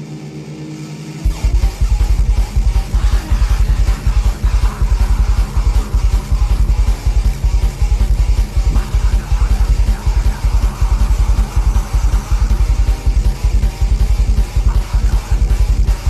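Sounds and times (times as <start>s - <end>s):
distorted electric guitars: 0.0s - 16.0s
fast kick drums: 1.3s - 16.0s.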